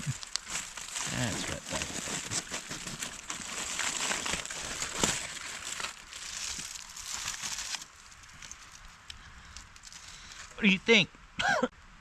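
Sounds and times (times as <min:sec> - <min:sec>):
aluminium foil crinkling: 0:00.0 - 0:10.6.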